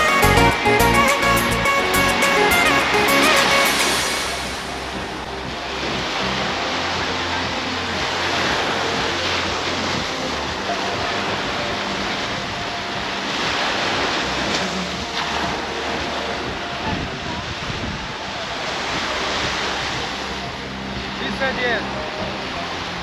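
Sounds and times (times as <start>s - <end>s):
wind on microphone: 1.6s - 21.2s
small waves breaking on shore: 3.2s - 23.0s.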